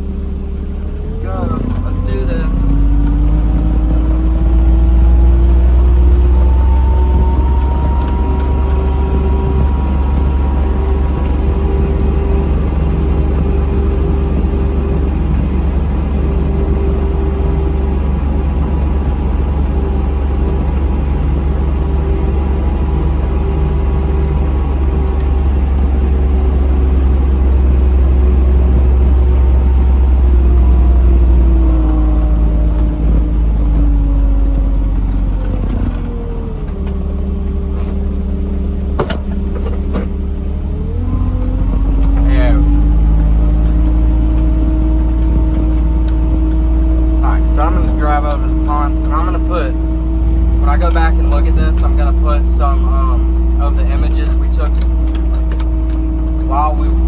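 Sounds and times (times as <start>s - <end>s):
loud vehicle engine running: 0.0s - 57.0s.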